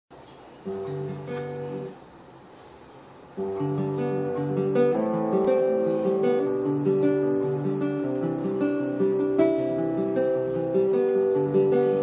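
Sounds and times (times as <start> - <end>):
acoustic guitar strumming: 0.6 - 2.2, 3.4 - 12.0.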